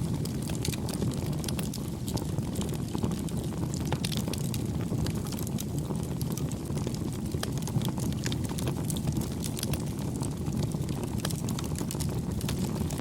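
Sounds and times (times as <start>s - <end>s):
low rumble of burning fire: 0.0s - 13.0s
wood fire crackling: 0.0s - 13.0s.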